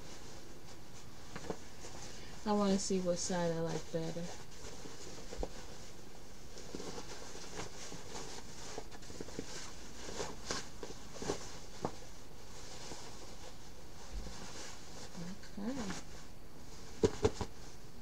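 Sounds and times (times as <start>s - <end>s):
fabric rustling and crumpling: 0.0s - 18.0s.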